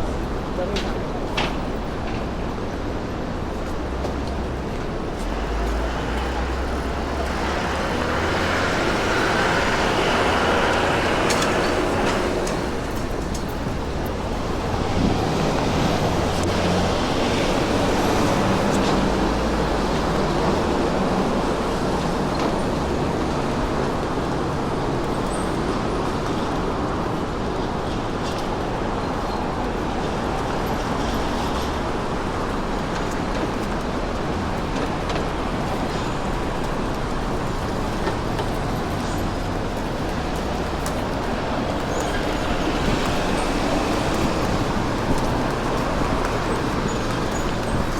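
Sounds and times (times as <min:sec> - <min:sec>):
motor vehicles passing: 0:03.1 - 0:47.9.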